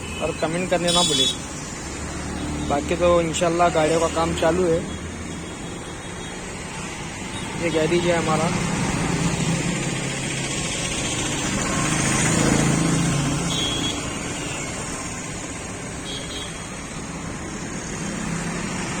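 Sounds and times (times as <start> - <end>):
passing vehicle engine: 0.0 - 5.7, 6.5 - 16.0, 17.0 - 19.0
road traffic: 0.0 - 19.0.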